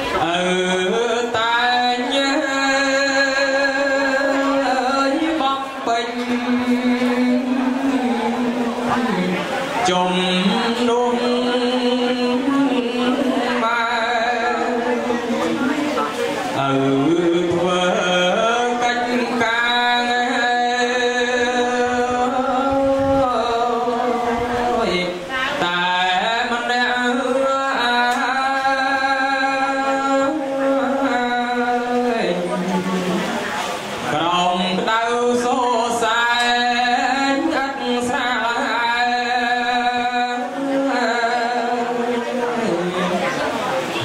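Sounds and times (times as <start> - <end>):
man chanting into a microphone: 0.0 - 43.4.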